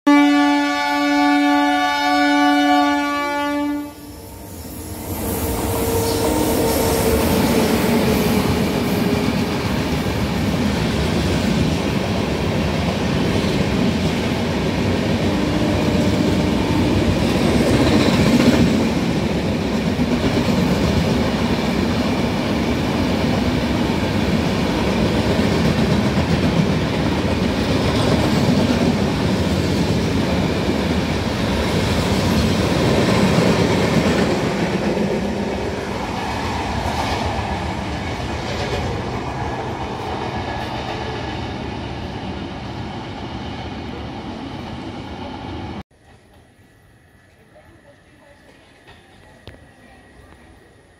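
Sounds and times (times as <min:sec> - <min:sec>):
train wheels on rails: 0:04.1 - 0:46.7.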